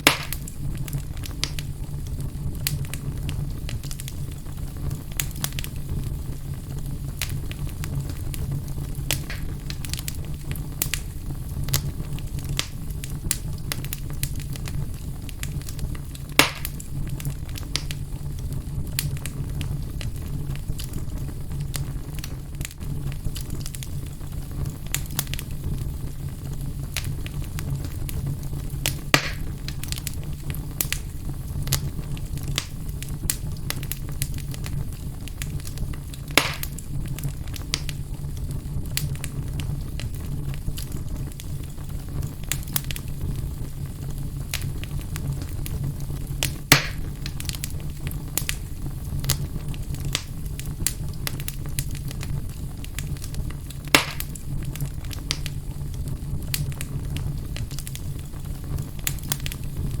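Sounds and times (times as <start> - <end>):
fire popping loudly: 0.0 - 60.0
wood fire burning: 0.0 - 60.0.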